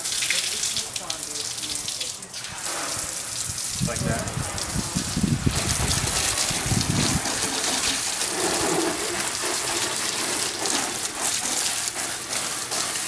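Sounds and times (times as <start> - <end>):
hose spray hissing: 0.0 - 13.0.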